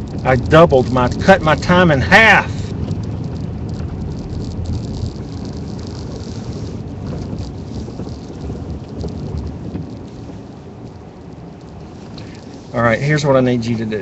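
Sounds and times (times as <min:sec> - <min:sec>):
low vehicle rumble: 0:00.0 - 0:14.0
tyres crackling on snow: 0:00.0 - 0:14.0.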